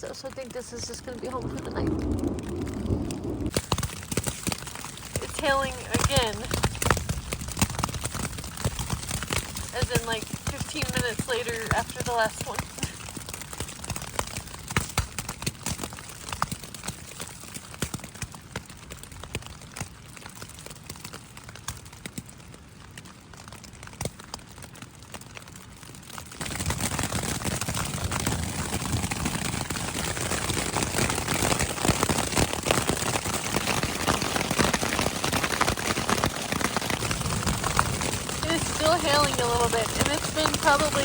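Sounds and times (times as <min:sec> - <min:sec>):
hail hitting tent fabric: 0:00.0 - 0:41.0.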